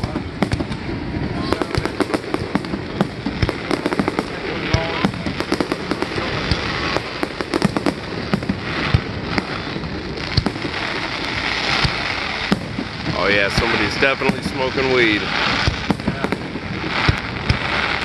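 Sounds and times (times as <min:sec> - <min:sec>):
continuous rumble: 0:00.0 - 0:18.0
fireworks bangs and crackles: 0:00.0 - 0:18.0.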